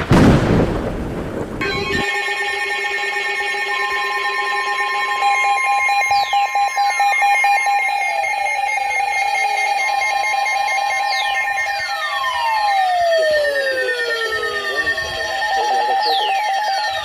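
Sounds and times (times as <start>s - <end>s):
alert tones: 1.6s - 17.0s
falling pitch sweeps: 1.6s - 17.0s
pulsing tone: 1.6s - 17.0s.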